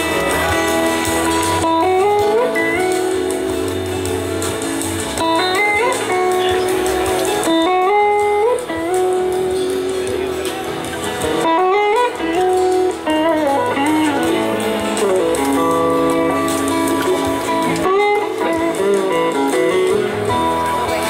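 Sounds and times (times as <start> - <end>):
band playing soul-blues: 0.0 - 21.0
electric slide guitar lead: 0.0 - 21.0.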